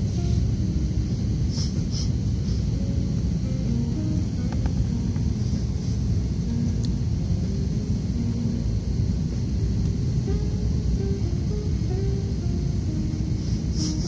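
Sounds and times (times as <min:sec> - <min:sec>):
jet engines rumbling: 0:00.0 - 0:14.0
rushing air: 0:00.0 - 0:14.0.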